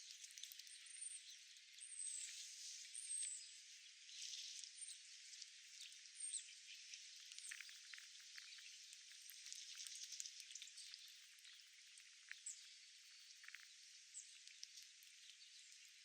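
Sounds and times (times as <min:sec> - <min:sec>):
faint crackly outdoor hiss: 0:01.5 - 0:16.0.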